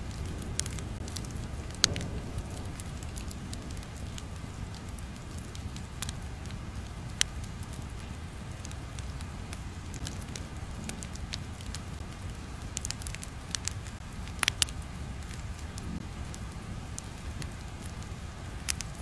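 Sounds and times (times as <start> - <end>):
crackling and pops: 0.0 - 19.0
low steady rumble: 0.0 - 19.0.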